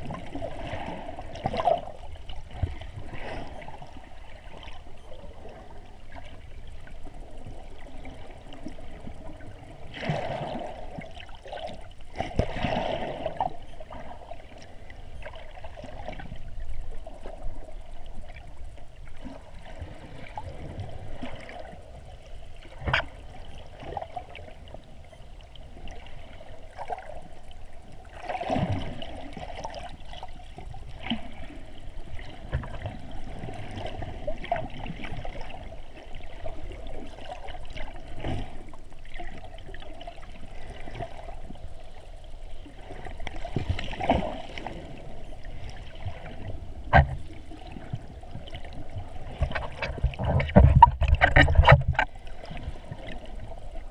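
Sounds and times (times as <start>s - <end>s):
muffled underwater sloshing: 0.0s - 53.9s.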